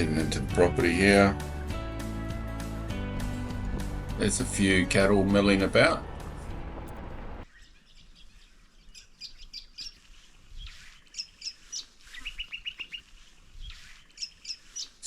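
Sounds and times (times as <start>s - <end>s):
birds chirping: 2.2s - 15.0s.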